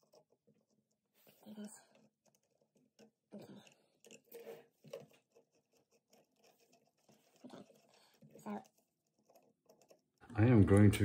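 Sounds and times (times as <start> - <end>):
metal parts clicking and scraping: 0.0 - 10.8.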